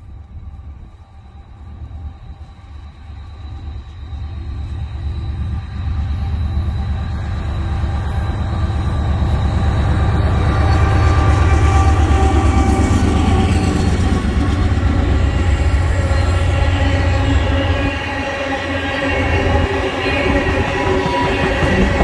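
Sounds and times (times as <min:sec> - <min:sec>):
diesel locomotive engines: 0:00.0 - 0:22.0
train wheel squeal: 0:00.0 - 0:22.0.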